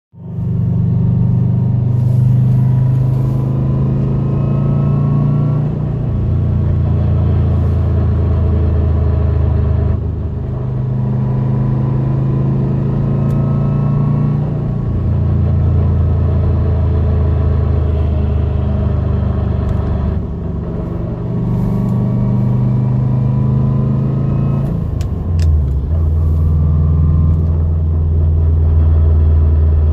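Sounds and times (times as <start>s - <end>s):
car engine drone: 0.1s - 29.9s.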